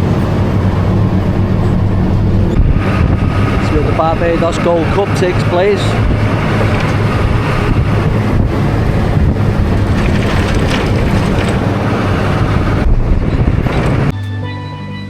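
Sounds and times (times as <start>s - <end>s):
wind buffeting microphone: 0.0s - 14.1s
vehicle engine humming: 0.0s - 15.0s.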